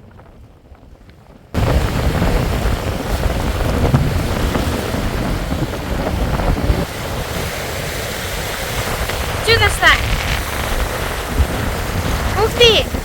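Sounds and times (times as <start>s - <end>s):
gusty wind buffeting microphone: 0.0s - 13.0s
waves washing on shore: 1.6s - 13.0s.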